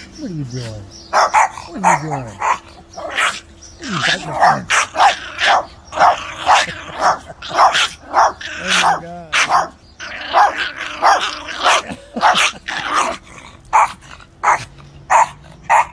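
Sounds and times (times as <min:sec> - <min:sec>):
small dogs barking: 0:00.0 - 0:15.9.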